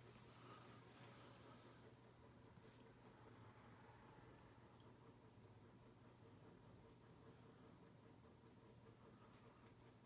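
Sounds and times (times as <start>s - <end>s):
ceiling fan hum: 0.0s - 10.0s.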